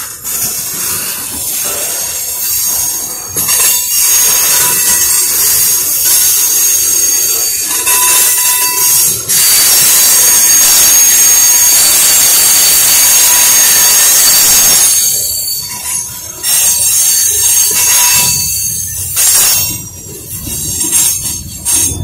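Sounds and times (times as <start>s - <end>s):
train wheels screeching on rails: 0.0s - 22.0s.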